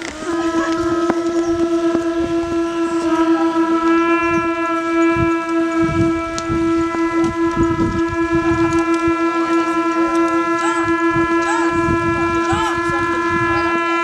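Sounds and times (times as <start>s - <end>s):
horn-like drone: 0.0s - 14.0s
wind buffeting microphone: 0.0s - 14.0s.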